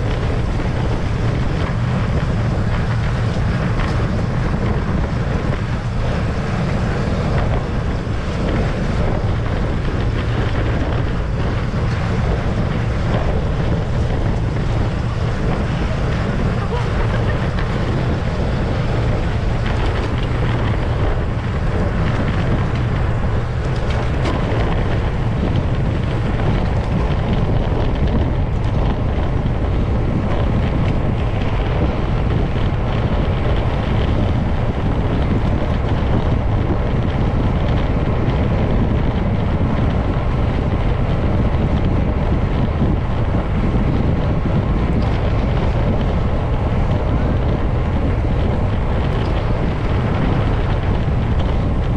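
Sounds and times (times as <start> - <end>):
wind rumbling on microphone: 0.0 - 51.9.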